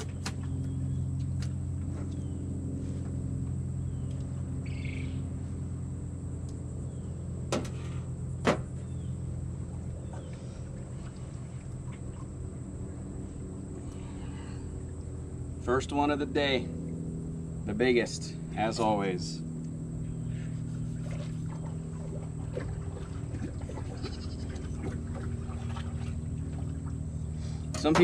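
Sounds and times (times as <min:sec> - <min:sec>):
mechanical motor hum: 0:00.0 - 0:28.0.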